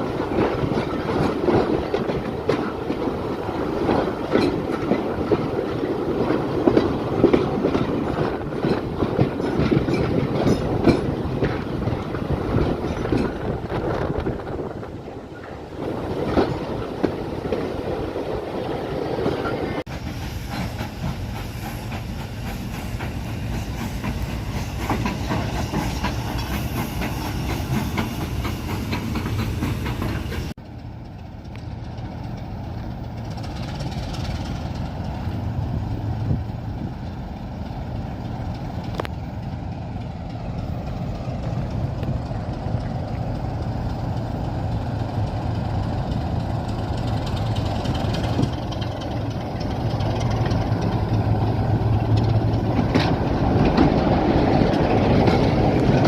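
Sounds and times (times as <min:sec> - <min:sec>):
train wheels clicking on track: 0:00.0 - 0:56.0.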